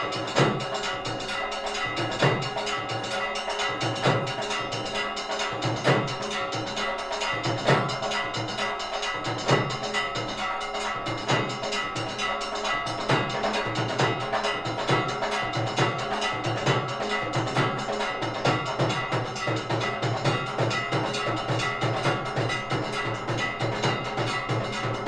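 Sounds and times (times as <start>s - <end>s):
drums beaten in steady rhythm: 0.0s - 25.0s
ringing bells: 0.0s - 25.0s.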